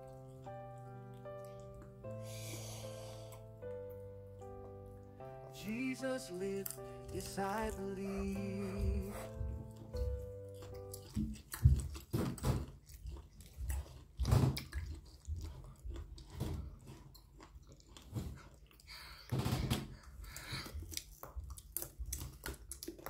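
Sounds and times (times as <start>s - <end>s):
chewing and biting: 0.0s - 4.8s, 5.8s - 23.0s.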